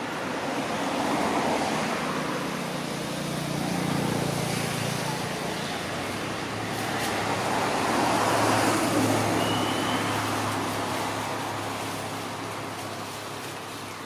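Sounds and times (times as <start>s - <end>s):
vehicle passing by: 0.0s - 13.9s.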